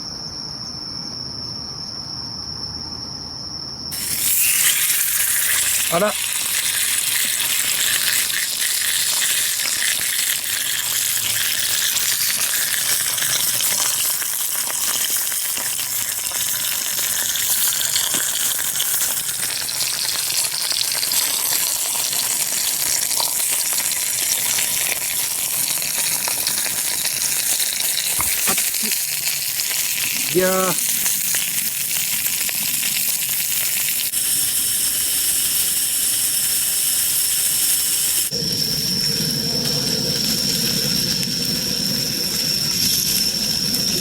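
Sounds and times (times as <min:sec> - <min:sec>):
meat sizzling on a griddle: 0:03.9 - 0:44.0.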